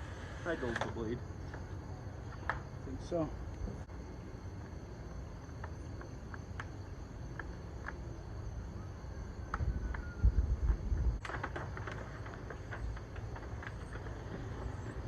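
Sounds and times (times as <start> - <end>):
insect chirps: 0.0 - 15.0.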